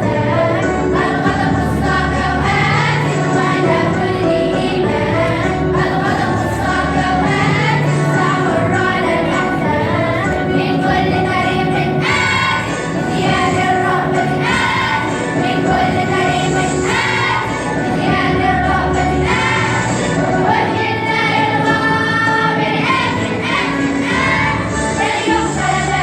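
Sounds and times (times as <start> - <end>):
children's choir singing: 0.0 - 26.0.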